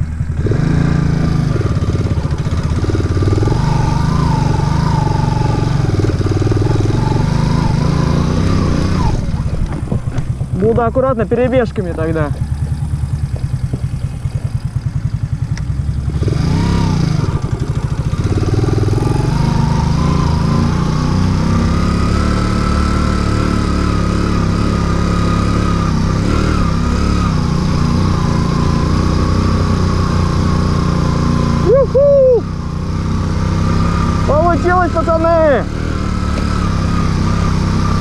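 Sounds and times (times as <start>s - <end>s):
moped engine revving: 0.0s - 38.0s.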